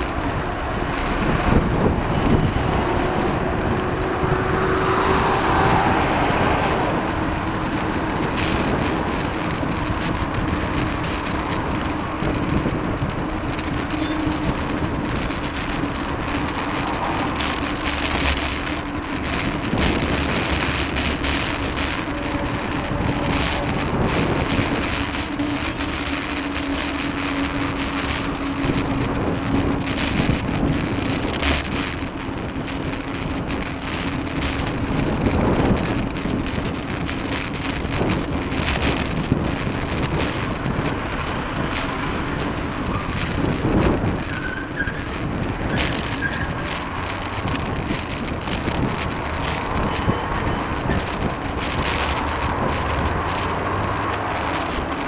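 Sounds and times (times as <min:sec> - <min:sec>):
bicycle knocking over pavement: 0:00.0 - 0:55.0
motor traffic passing: 0:00.0 - 0:55.0
wind on microphone: 0:00.0 - 0:55.0.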